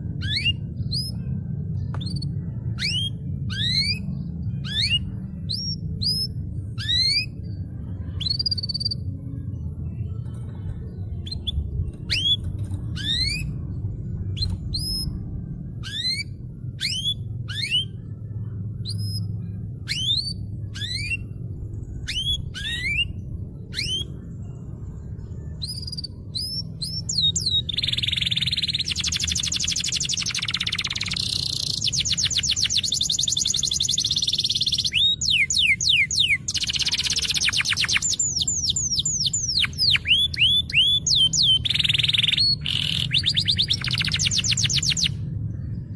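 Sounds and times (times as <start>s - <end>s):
canary singing: 0.0s - 45.4s
low steady hum: 0.0s - 45.9s.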